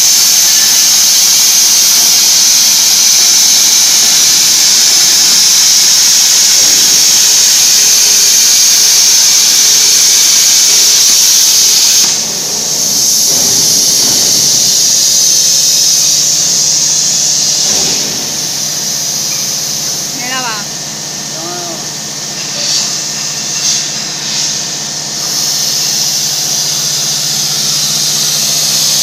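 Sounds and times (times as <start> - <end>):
plasma torch cutting steel: 0.0 - 29.0.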